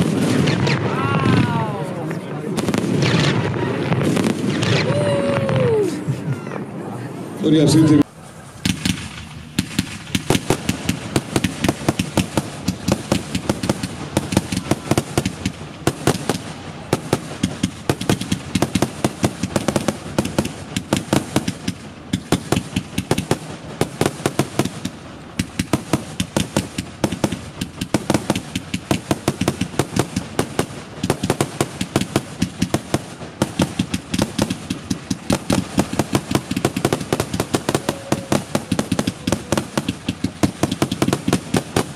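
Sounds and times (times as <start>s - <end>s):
fireworks bangs and cracks: 0.0s - 6.8s, 7.5s - 41.9s.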